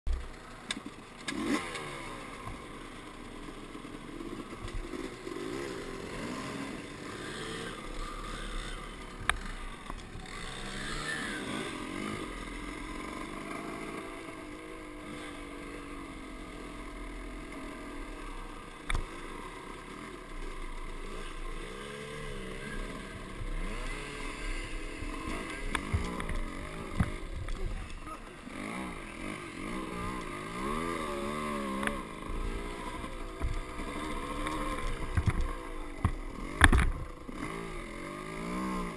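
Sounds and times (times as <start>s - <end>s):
dirt bike engines revving: 0.1s - 38.9s.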